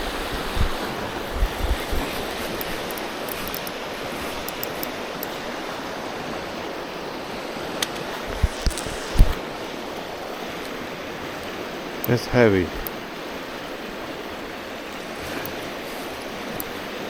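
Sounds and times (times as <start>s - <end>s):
river water flowing over rocks: 0.0s - 17.0s.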